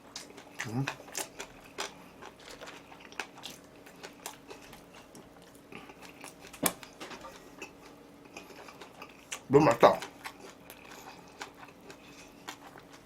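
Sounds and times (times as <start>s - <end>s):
close chewing with mouth clicks: 0.0s - 13.0s.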